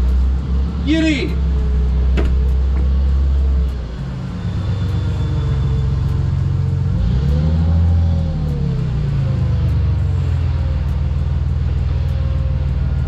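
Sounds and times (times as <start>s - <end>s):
forklift engine revving: 0.0s - 13.0s.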